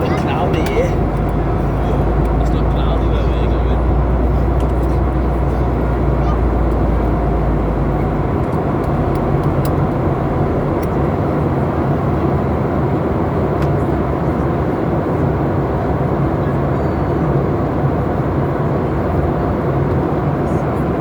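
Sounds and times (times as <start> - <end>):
airliner cabin engine noise: 0.0 - 21.0.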